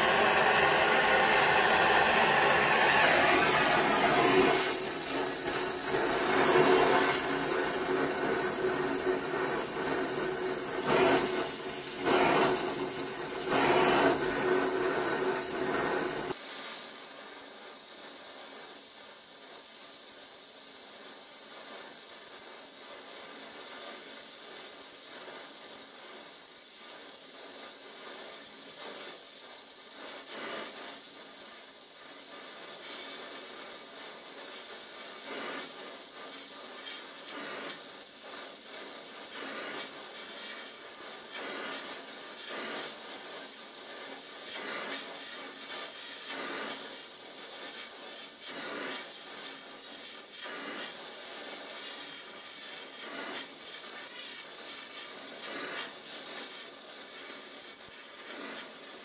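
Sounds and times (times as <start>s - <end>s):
gas welding torch flame hissing: 0.0s - 59.0s.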